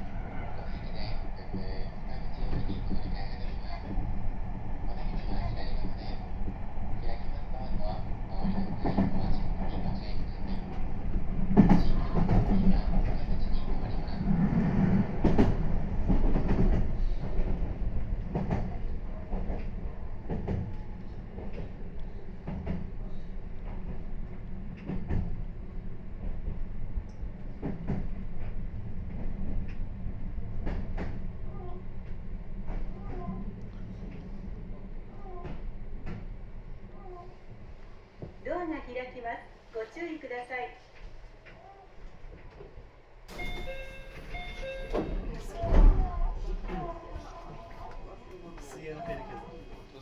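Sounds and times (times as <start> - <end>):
train rumbling: 0.0 - 50.0.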